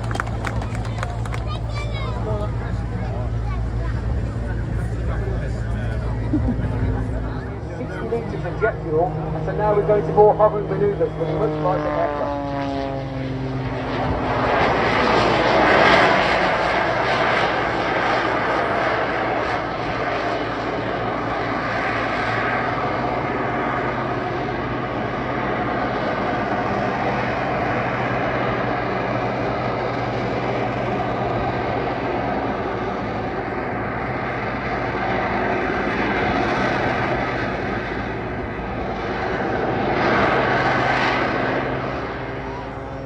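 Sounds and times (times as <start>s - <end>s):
plane engine flying overhead: 0.0s - 43.0s.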